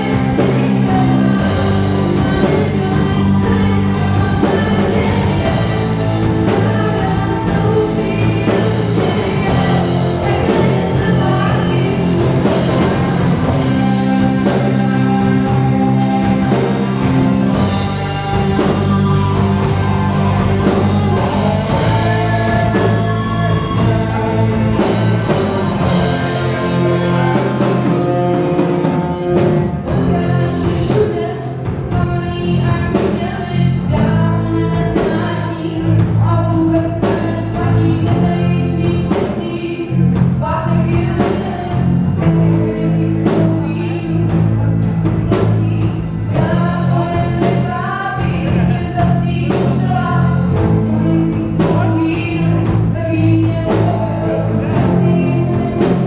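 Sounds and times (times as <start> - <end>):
live rock band playing: 0.0 - 56.0
woman singing: 0.0 - 56.0.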